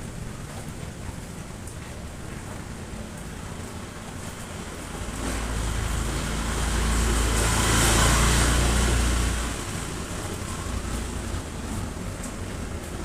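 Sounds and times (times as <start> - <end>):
rain hiss: 0.0 - 13.0
car passing on wet road: 2.5 - 13.0.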